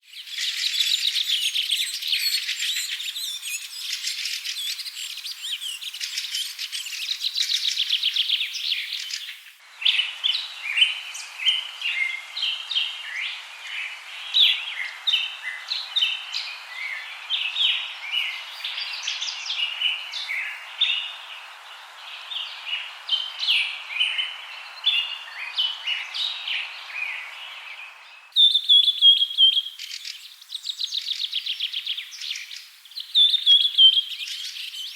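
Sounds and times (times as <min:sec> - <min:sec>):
faint hiss: 0:00.0 - 0:34.9
birds chirping and singing: 0:00.1 - 0:34.9.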